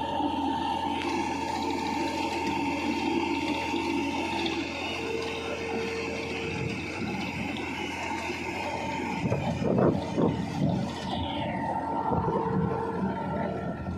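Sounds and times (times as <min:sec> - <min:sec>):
higher machine tone: 0:00.0 - 0:13.9
tractor engine with whine: 0:00.0 - 0:13.9.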